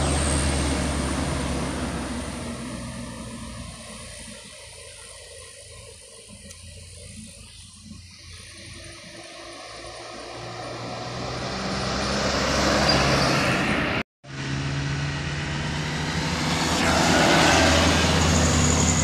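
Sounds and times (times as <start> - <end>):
diesel truck engine pulling away: 0.0 - 19.0
distant traffic: 0.0 - 19.0.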